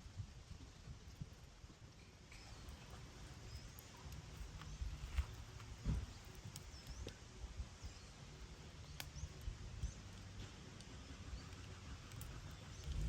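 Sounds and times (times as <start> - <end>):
campfire crackling and popping: 0.0 - 13.0
small birds chirping: 2.0 - 13.0.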